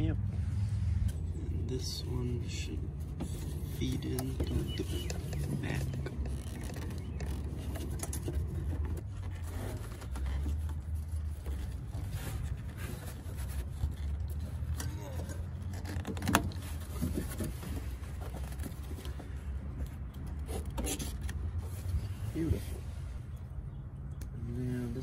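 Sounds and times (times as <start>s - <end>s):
hands handling rubber hose: 1.8s - 23.4s.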